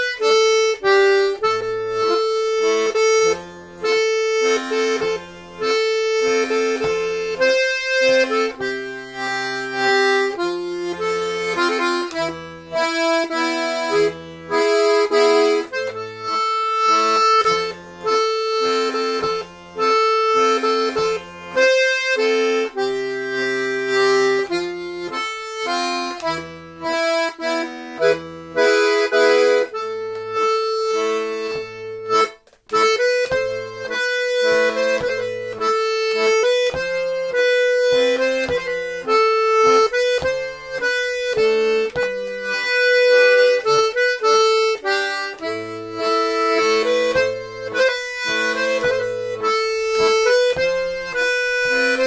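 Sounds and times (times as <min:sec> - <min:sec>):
button accordion playing a tune: 0:00.0 - 0:52.0.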